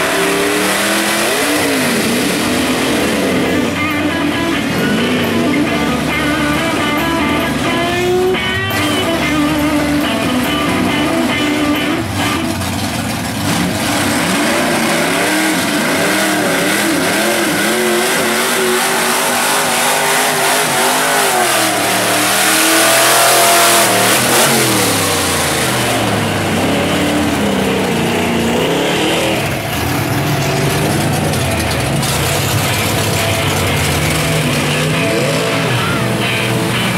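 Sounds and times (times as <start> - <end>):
truck engines revving: 0.0 - 36.9.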